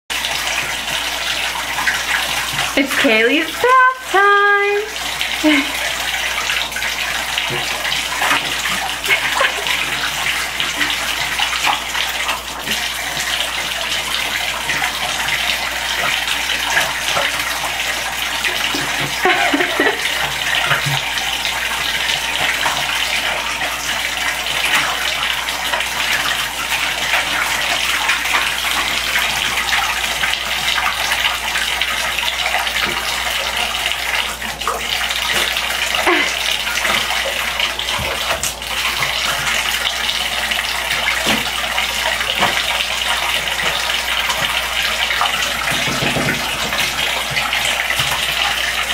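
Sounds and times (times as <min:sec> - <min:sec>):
faucet water splashing into tub: 0:00.1 - 0:48.9.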